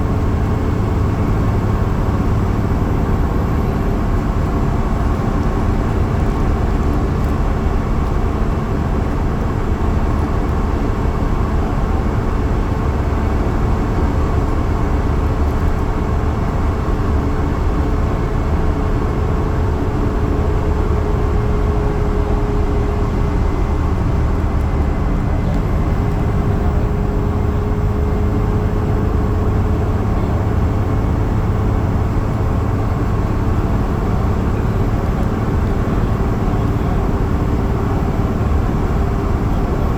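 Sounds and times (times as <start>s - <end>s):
bus engine drone: 0.0s - 39.9s
road and tyre rumble: 0.0s - 39.9s.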